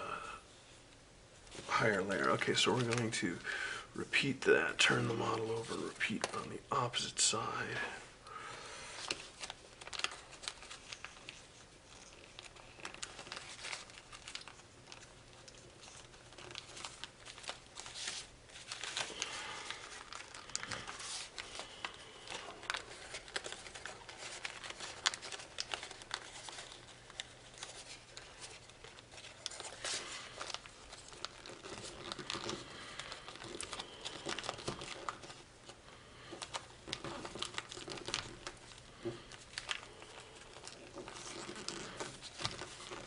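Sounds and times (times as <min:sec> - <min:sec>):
foil paper crinkling: 0:01.5 - 0:43.0.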